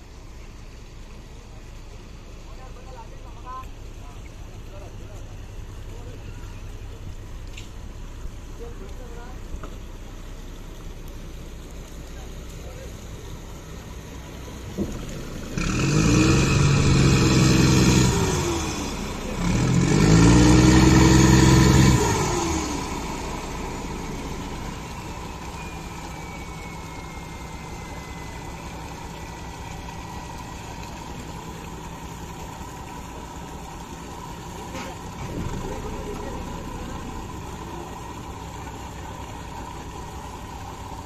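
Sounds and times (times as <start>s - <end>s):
boat engine revving and idling: 0.0s - 41.0s.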